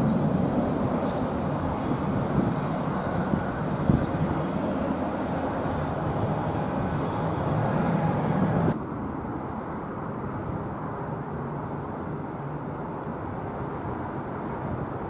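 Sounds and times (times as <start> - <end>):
distant turboprop rumble: 0.0 - 15.0
jet engine rumble: 0.0 - 15.0.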